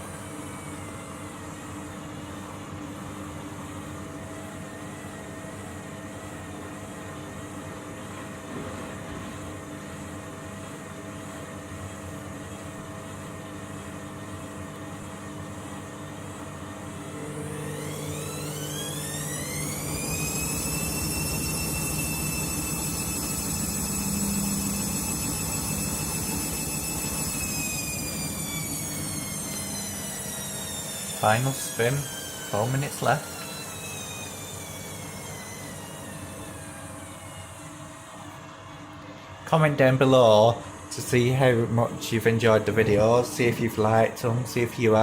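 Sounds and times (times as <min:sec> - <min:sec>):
washing machine spinning: 0:00.0 - 0:45.0.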